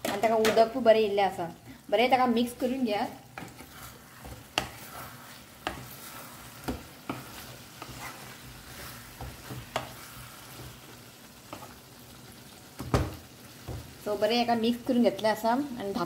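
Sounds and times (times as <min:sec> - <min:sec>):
chicken sizzling in pan: 0:00.0 - 0:16.0.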